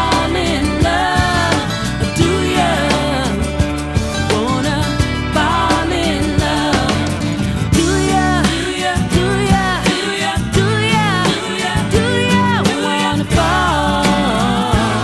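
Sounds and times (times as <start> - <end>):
bass line: 0.0 - 15.0
person singing: 0.0 - 15.0.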